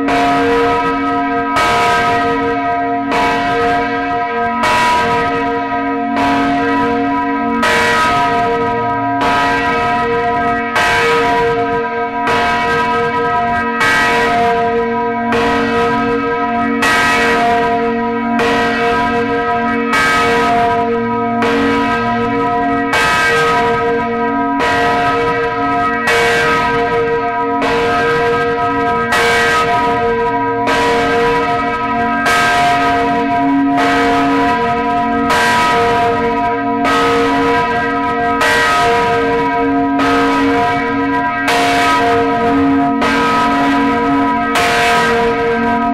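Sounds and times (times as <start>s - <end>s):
large church bells tolling: 0.0s - 45.9s.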